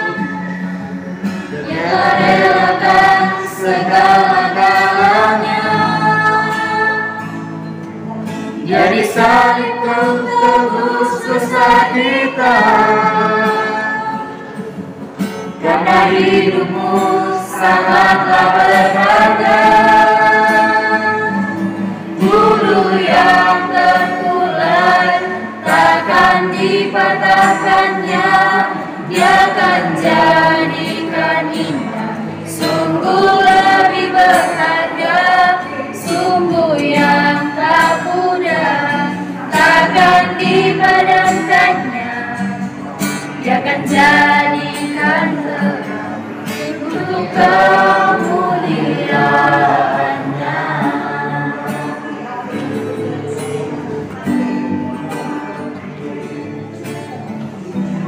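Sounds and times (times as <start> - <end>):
group of girls singing a hymn: 0.0 - 56.2.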